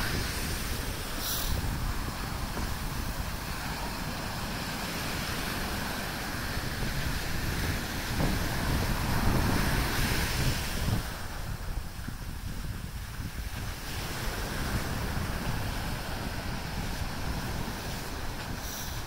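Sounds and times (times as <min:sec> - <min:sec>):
ocean surf on sand beach: 0:00.0 - 0:19.0
wind buffeting microphone: 0:00.0 - 0:19.0.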